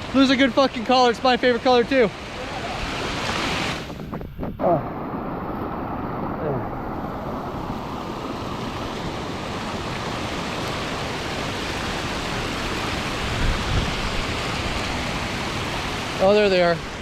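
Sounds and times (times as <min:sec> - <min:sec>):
water rushing over cascades: 0:00.0 - 0:17.0.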